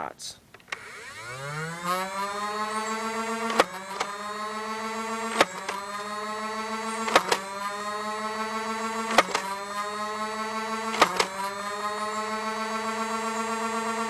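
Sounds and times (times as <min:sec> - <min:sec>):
toy blaster flywheels whining: 0:00.6 - 0:14.0.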